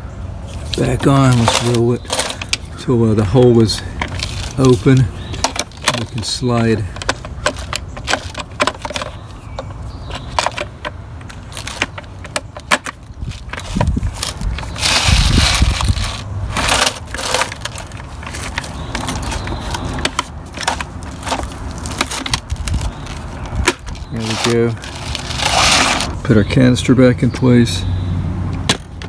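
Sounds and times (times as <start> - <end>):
plastic scraping: 0.5 - 26.6
plastic parts clicking and knocking: 0.6 - 26.2, 28.5 - 29.0.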